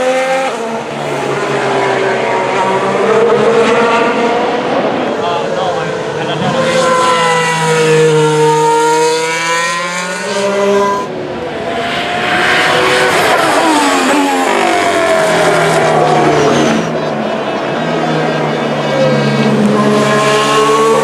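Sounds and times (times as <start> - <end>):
racing cars passing at high revs: 0.0 - 21.0.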